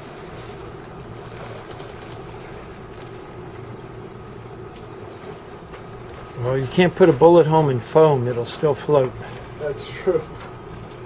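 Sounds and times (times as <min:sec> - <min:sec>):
boat engine drone: 0:00.0 - 0:11.0
water noise: 0:00.0 - 0:11.0
wind: 0:00.0 - 0:11.0.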